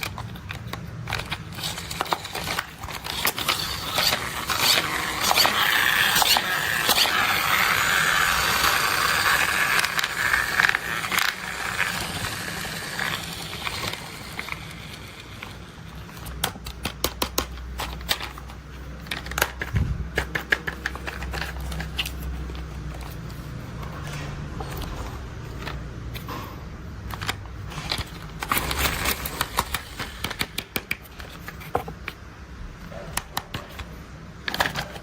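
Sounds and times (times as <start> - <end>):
toy vehicles scraping and crackling: 0.0 - 32.2, 32.9 - 35.0.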